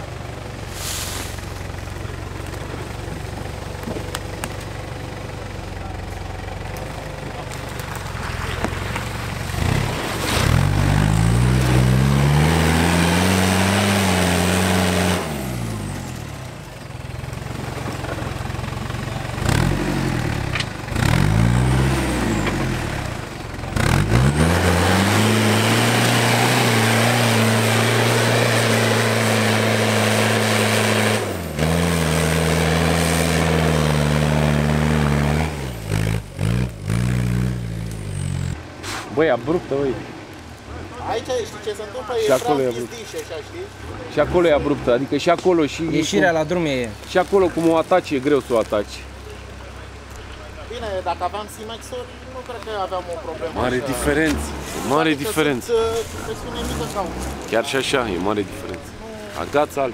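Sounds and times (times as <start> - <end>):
off-road engine revving: 0.0 - 59.9
tyres rushing through dirt: 0.0 - 59.9.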